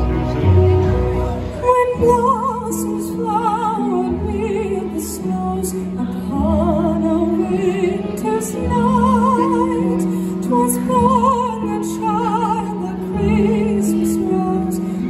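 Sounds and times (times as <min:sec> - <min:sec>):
sustained low accompaniment: 0:00.0 - 0:14.3
voice singing with wide vibrato: 0:01.5 - 0:15.0.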